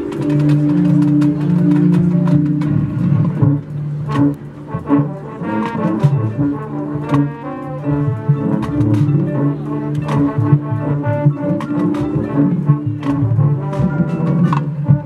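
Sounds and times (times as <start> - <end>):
drum and mallet percussion hits: 0.0 - 15.0
marching band brass chords: 0.0 - 15.0.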